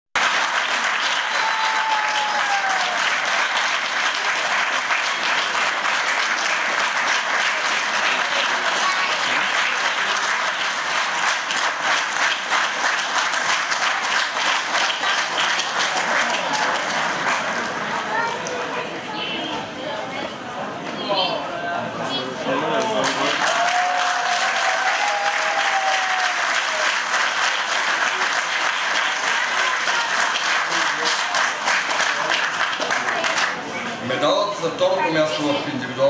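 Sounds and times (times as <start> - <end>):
audience applauding: 0.2 - 18.6, 22.5 - 34.0.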